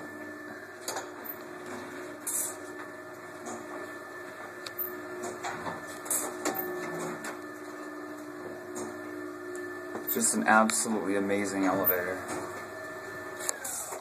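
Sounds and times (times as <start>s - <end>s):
elevator mechanical hum: 0.0s - 14.0s.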